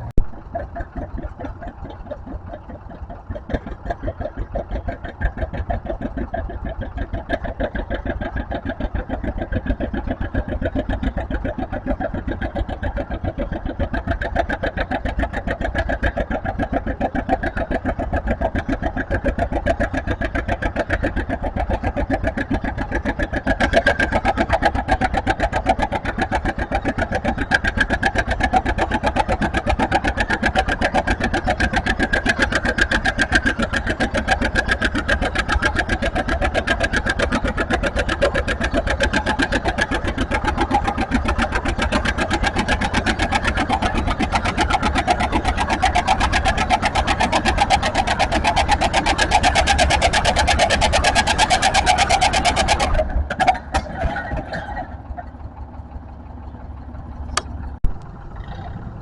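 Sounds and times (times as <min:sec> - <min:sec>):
tractor engine running hard: 0:00.0 - 0:59.0.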